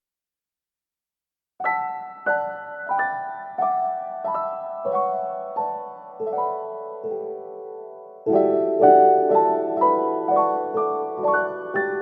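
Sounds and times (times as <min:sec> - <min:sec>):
slow piano melody: 0:01.6 - 0:12.0.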